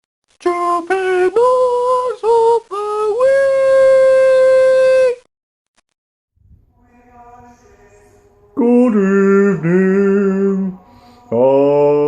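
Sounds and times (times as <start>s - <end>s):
person singing a cappella: 0.4s - 5.3s, 6.8s - 12.0s.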